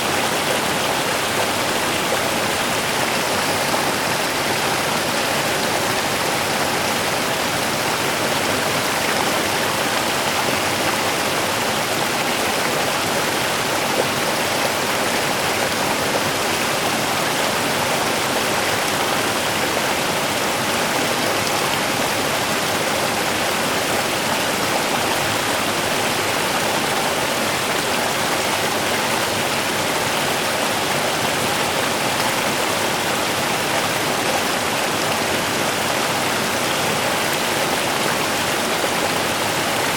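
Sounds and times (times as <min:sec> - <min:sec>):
water flowing over stones: 0:00.0 - 0:39.9.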